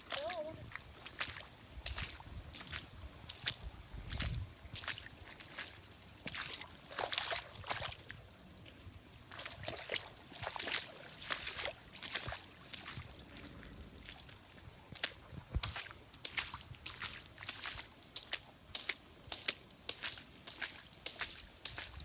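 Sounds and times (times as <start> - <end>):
footsteps splashing through water: 0.0 - 22.0.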